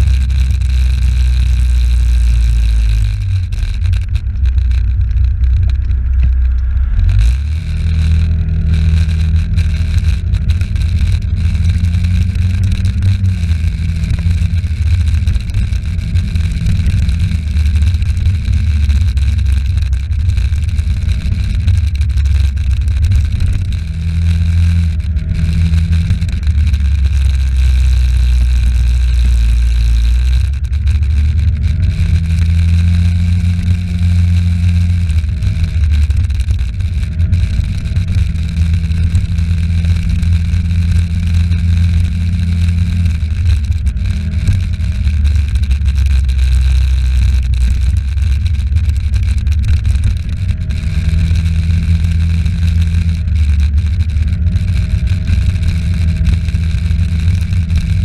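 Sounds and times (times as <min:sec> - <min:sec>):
heavy low rumble: 0:00.0 - 0:58.0
vehicle engine running: 0:00.0 - 0:58.0.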